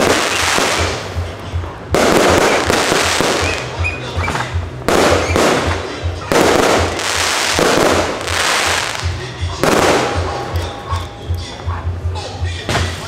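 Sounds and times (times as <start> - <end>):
fireworks bursting: 0.0 - 10.9
music with low beat: 0.0 - 13.0.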